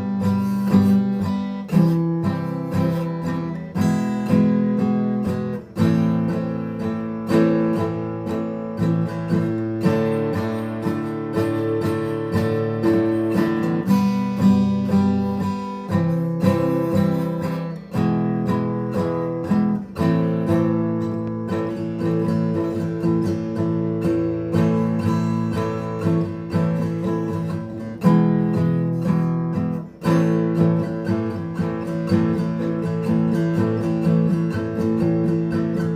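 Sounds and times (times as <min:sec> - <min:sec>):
acoustic guitar strumming chords: 0:00.0 - 0:35.9.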